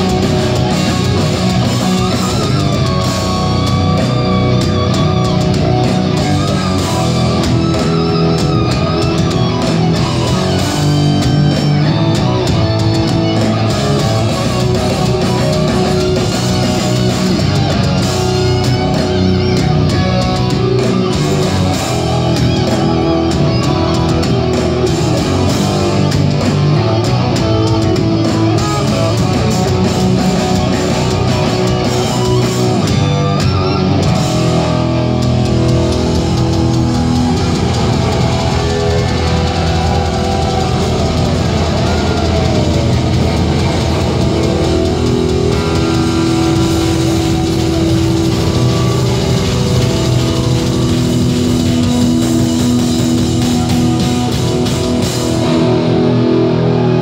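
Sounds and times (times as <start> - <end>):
electric guitar lead: 0.0 - 57.0
live heavy metal band: 0.0 - 57.0.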